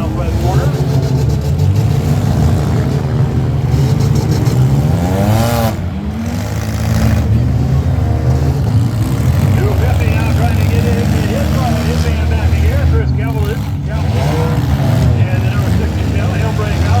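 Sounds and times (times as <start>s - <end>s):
engine revving up: 0.0s - 17.0s
engines running hard: 0.0s - 17.0s.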